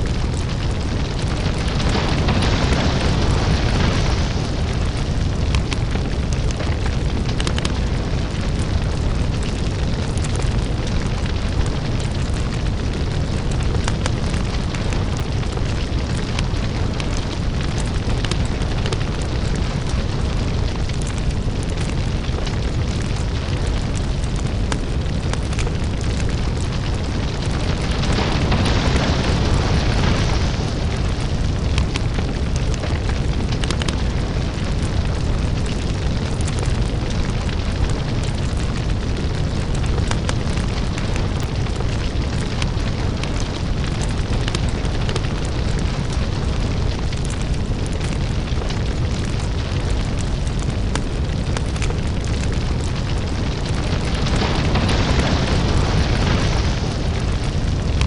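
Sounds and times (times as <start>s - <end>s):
deep steady rumble: 0.0s - 58.0s
fire crackles and pops: 0.0s - 58.0s.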